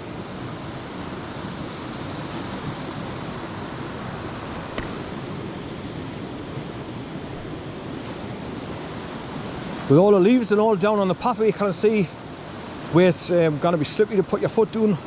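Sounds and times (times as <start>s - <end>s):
fast-flowing stream rushing: 0.0s - 15.0s.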